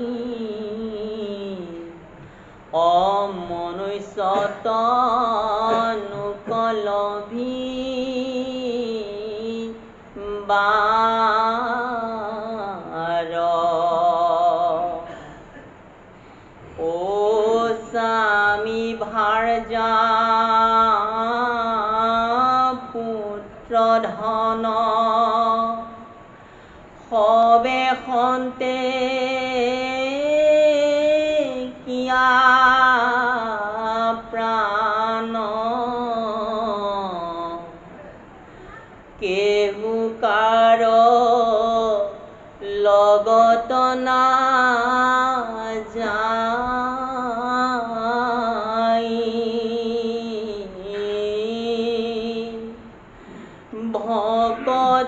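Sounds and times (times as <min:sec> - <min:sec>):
man chanting: 0:00.0 - 0:02.0, 0:02.7 - 0:15.2, 0:16.7 - 0:26.2, 0:27.0 - 0:52.9, 0:53.7 - 0:55.0.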